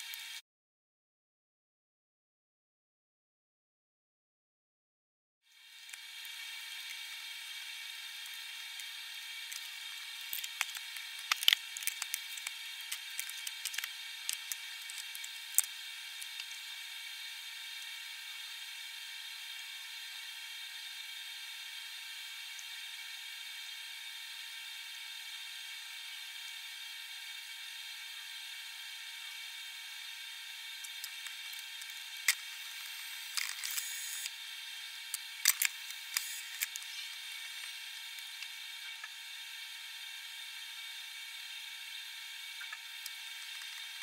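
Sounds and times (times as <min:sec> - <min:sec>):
pot simmering hiss: 0:05.5 - 0:44.0.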